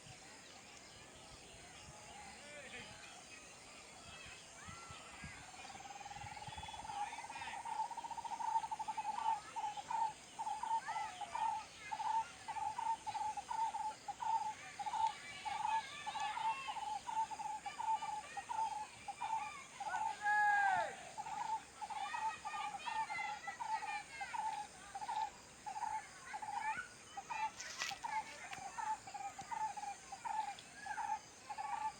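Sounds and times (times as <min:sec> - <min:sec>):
birds chirping: 0:04.3 - 0:31.9.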